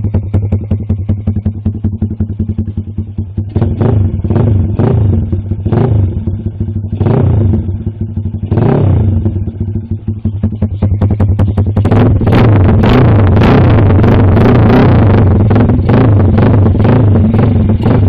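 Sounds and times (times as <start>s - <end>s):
single-cylinder engine revving: 0.0s - 18.0s.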